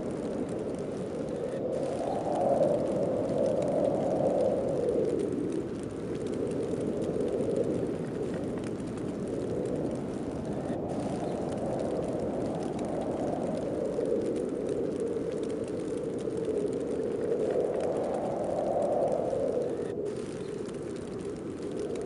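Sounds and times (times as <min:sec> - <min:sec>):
snowstorm wind rushing: 0:00.0 - 0:22.0.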